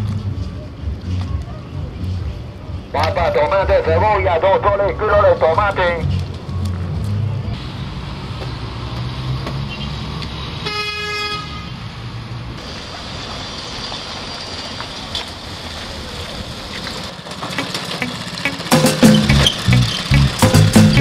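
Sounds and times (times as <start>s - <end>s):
street traffic noise: 0.0s - 21.0s.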